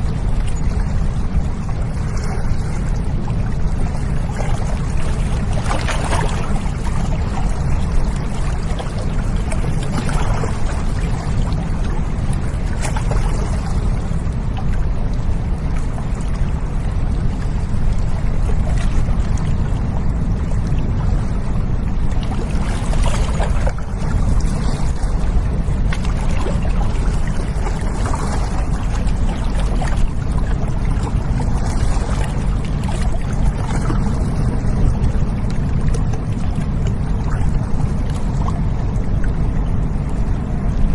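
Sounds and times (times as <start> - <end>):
ship engine drone: 0.0 - 40.9
water washing along bank: 0.0 - 40.9.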